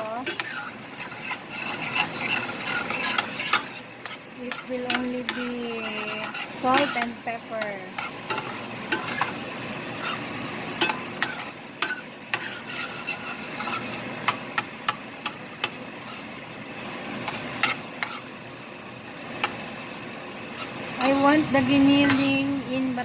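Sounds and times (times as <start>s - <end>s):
utensil scraping a pan: 0.0s - 18.4s, 20.4s - 23.0s
low sizzle: 0.0s - 23.0s.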